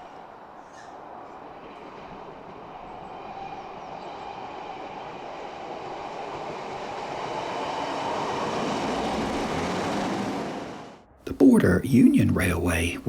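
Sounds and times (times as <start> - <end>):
diesel train rumbling on rails: 0.0 - 13.0.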